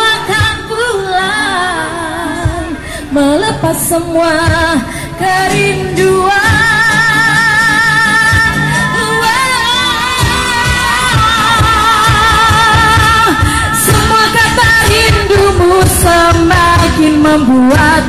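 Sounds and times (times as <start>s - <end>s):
acoustic guitar: 0.0s - 18.0s
woman singing pop ballad: 0.0s - 18.0s.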